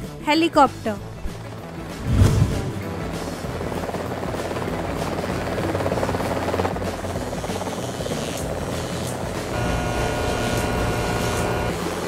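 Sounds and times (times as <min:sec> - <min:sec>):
helicopter rotor chopping: 0:01.0 - 0:12.0.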